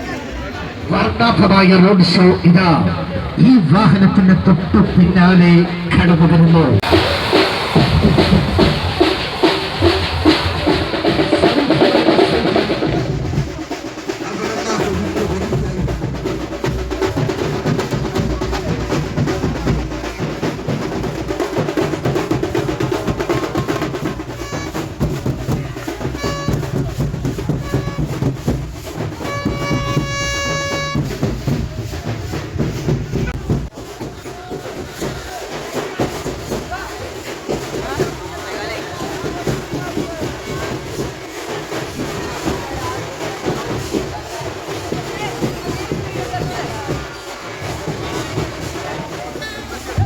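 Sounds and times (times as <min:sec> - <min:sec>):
fast dense drumming: 0:00.0 - 0:50.0.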